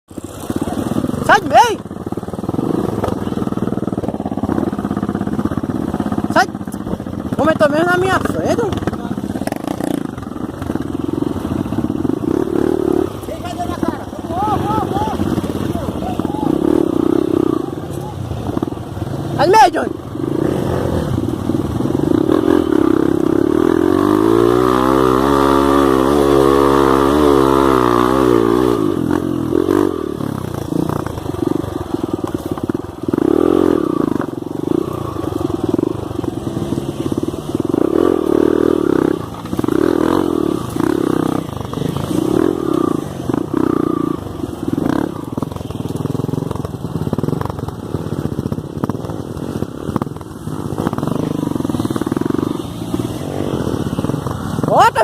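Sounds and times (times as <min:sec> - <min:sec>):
motorcycle engine revving: 0:00.1 - 0:55.0.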